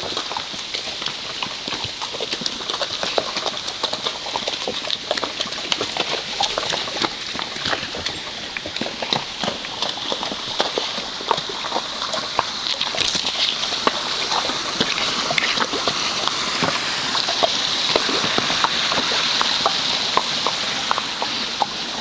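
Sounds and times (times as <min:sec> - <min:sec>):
horse hooves clip-clopping on rocks: 0:00.0 - 0:22.0.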